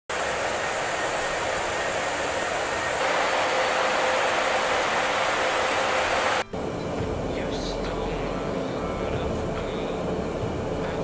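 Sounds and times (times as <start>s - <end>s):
aircraft in flight rushing: 0.1s - 11.0s.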